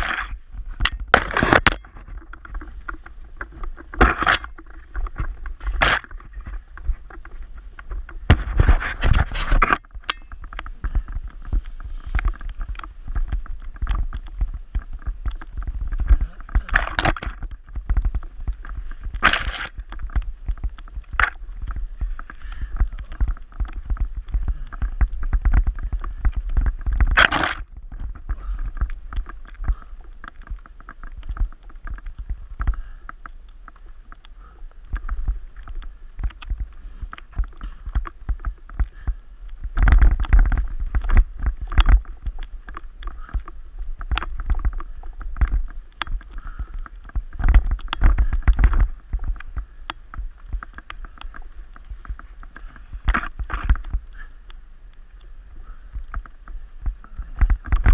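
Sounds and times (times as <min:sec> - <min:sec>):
bike rattling and clicking: 0:00.0 - 0:57.9
tyres and wind rumble: 0:00.0 - 0:57.9.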